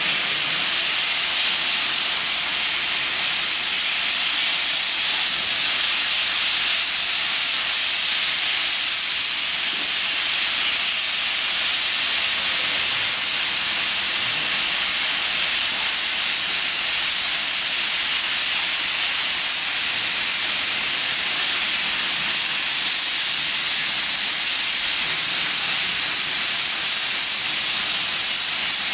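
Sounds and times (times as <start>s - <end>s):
sandblasting nozzle hissing: 0.0s - 28.9s.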